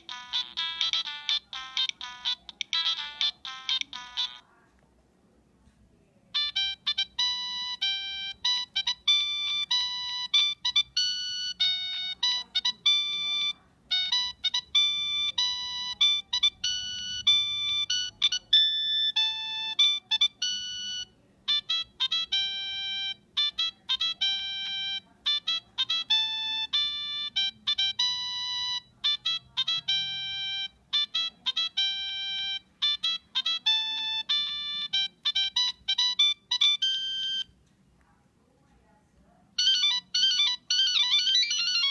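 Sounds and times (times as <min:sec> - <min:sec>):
mobile phone ringtone beeps: 0:00.0 - 0:04.4, 0:06.4 - 0:37.6, 0:39.6 - 0:41.9.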